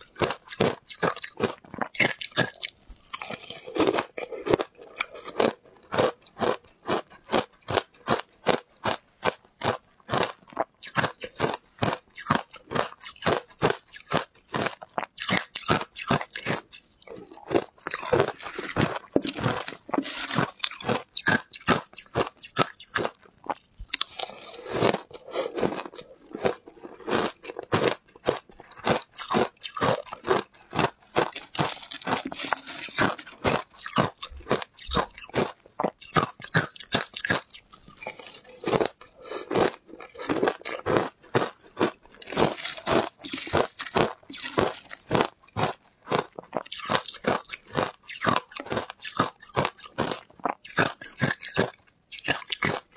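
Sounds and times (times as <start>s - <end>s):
ice crunching between teeth: 0.0s - 52.9s.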